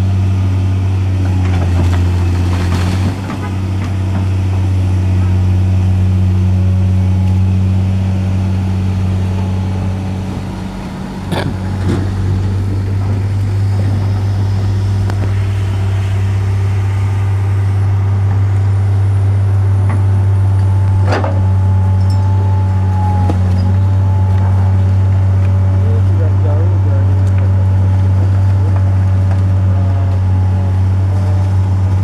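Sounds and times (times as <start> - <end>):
heavy vehicle engine idling: 0.0 - 32.0.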